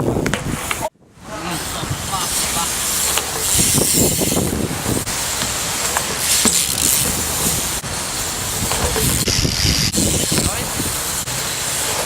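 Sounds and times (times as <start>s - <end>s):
wind buffeting microphone: 0.0s - 5.8s, 6.7s - 11.3s.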